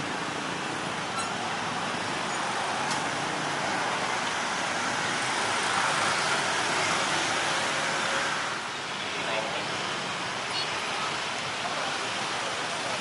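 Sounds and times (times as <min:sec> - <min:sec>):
rushing vehicle noise: 0:00.0 - 0:13.0.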